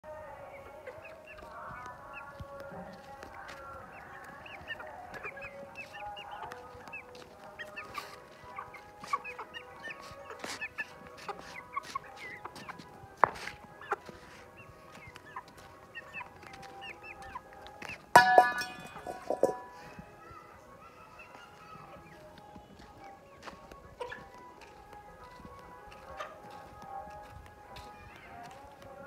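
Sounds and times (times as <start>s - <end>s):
chickens clucking: 0.3s - 29.0s.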